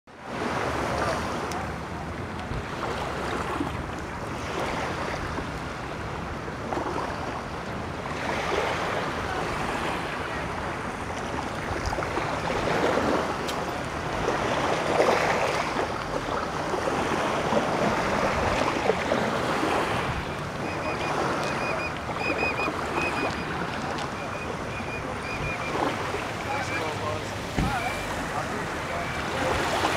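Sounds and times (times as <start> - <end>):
wind: 0.0 - 29.9
surf washing on shore: 0.1 - 29.9.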